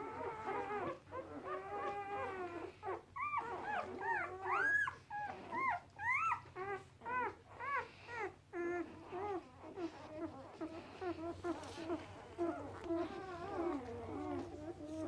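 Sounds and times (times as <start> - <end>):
puppies squeaking and whimpering: 0.0 - 15.0.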